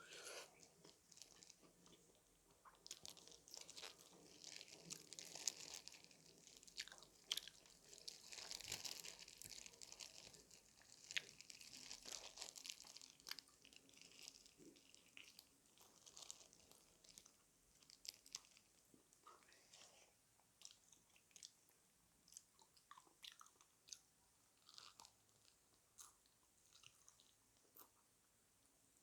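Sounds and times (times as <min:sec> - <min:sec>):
chewing crispy food: 0:00.4 - 0:29.0.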